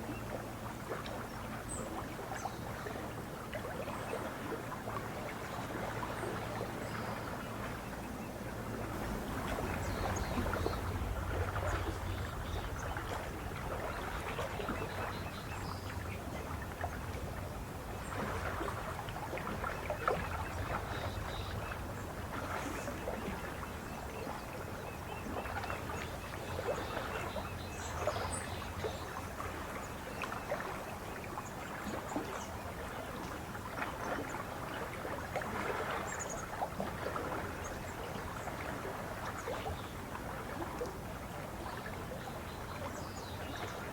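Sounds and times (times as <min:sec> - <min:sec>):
waves lapping at shore: 0:00.0 - 0:43.9.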